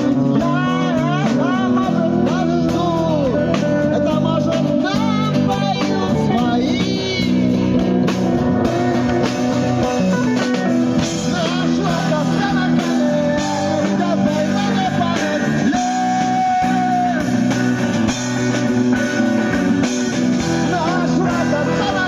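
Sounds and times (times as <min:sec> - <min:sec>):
bass guitar: 0:00.0 - 0:22.0
drum kit: 0:00.0 - 0:22.0
electric and acoustic guitars: 0:00.0 - 0:22.0
male lead vocal: 0:00.0 - 0:22.0.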